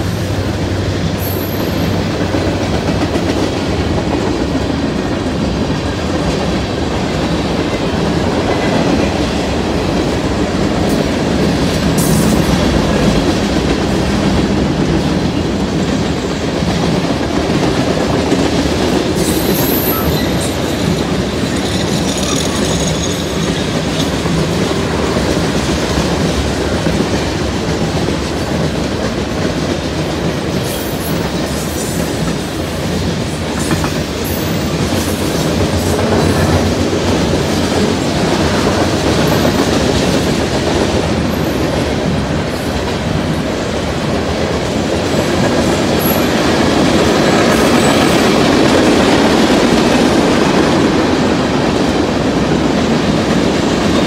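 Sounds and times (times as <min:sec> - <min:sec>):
steel wheels on rail: 0:00.0 - 0:54.0.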